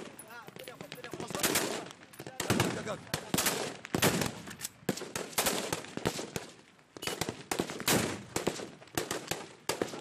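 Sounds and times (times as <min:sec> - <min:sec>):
small-arms gunfire with echo: 0:00.0 - 0:10.0.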